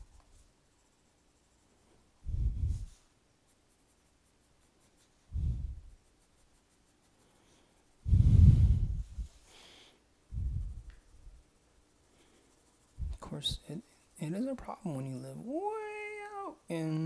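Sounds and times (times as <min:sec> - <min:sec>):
pencil scratching on paper: 0:00.0 - 0:08.1, 0:10.8 - 0:16.9.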